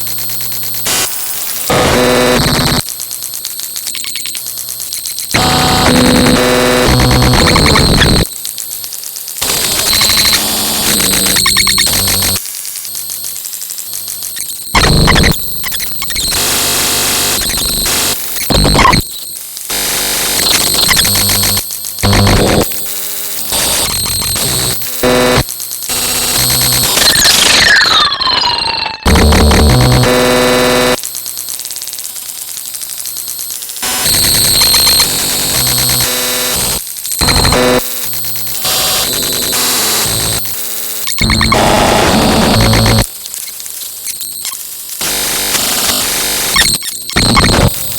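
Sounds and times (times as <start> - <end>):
electronic static: 0.0 - 47.9.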